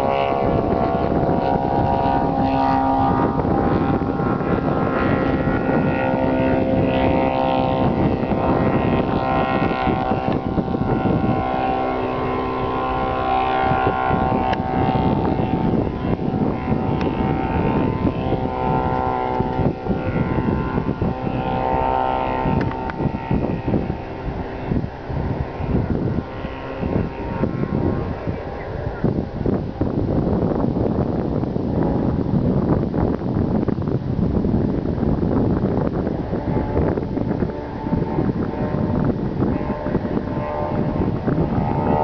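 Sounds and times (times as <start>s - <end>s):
propeller airplane droning overhead: 0.0s - 42.0s
wind buffeting microphone: 0.0s - 42.0s.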